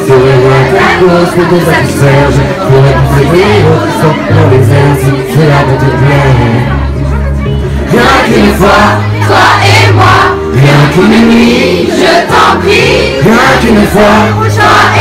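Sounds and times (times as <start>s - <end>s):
backing track with heavy bass: 0.0s - 15.0s
people singing into microphone: 0.0s - 15.0s.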